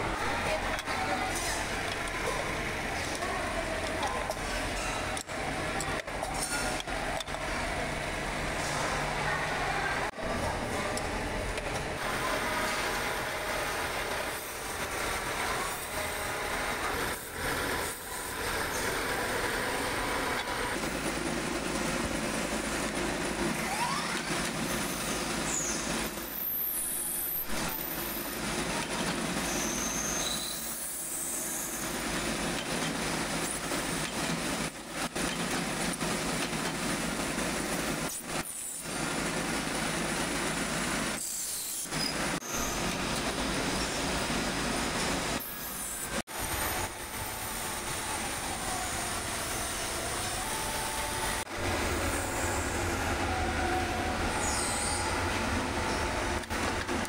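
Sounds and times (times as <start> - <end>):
factory machinery running: 0.0 - 57.0.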